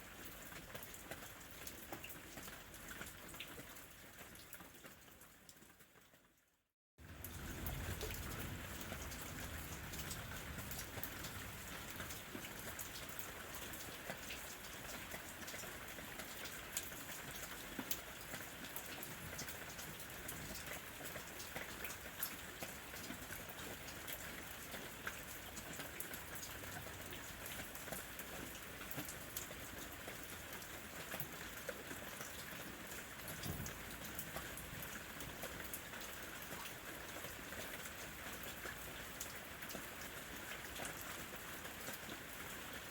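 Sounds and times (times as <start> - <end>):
steady rain falling: 0.0 - 6.4, 7.0 - 42.9.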